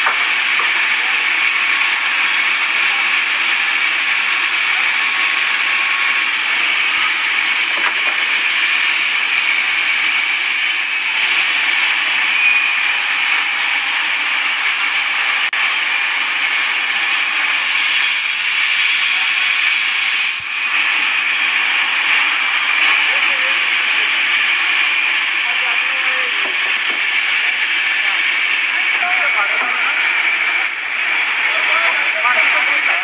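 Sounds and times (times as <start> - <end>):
sawmill machinery hissing: 0.0 - 33.0.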